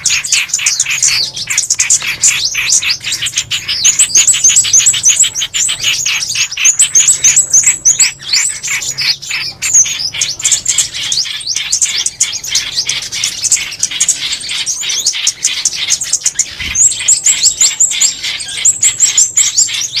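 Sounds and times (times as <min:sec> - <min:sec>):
down-slurred bird notes: 0:00.0 - 0:20.0
songbird chirps: 0:00.0 - 0:20.0.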